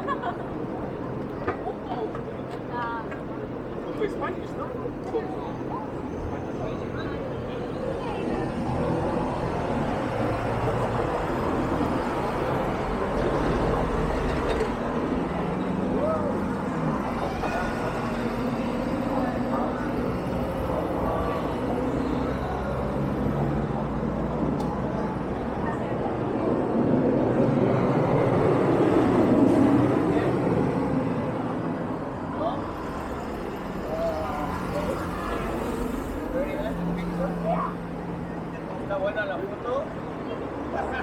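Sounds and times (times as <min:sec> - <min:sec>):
city street traffic: 0:00.0 - 0:41.0
road noise: 0:00.0 - 0:41.0
vehicle engines humming: 0:00.0 - 0:41.0.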